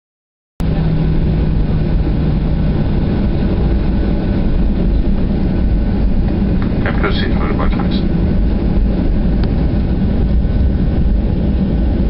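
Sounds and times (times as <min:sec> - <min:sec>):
jet engines rumbling in cabin: 0:00.6 - 0:12.0
low steady hum: 0:00.6 - 0:12.0.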